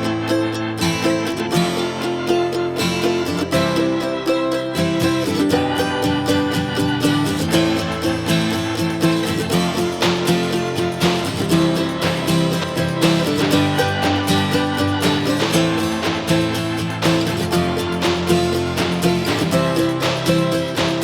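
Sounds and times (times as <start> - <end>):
country acoustic guitar music: 0.0 - 21.0.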